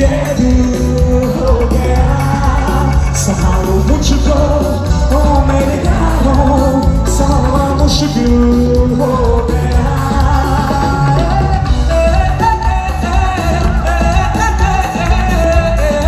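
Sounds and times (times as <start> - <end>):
live band through pa: 0.0 - 16.0
man singing: 0.0 - 16.0.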